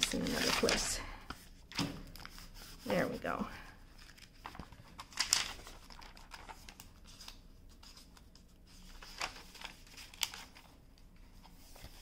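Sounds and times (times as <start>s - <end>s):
paper rustling: 0.0s - 3.3s, 3.9s - 12.0s.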